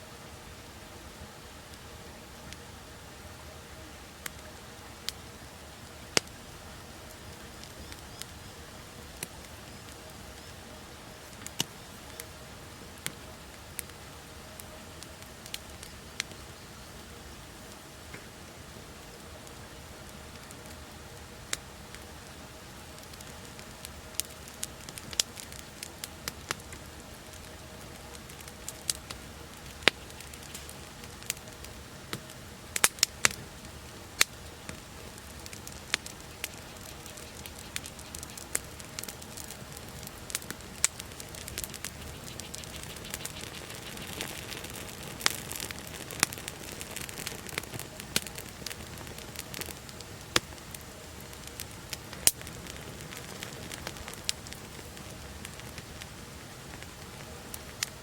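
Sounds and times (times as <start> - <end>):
fire hissing: 1.5 - 58.0
campfire crackling and popping: 4.1 - 58.0.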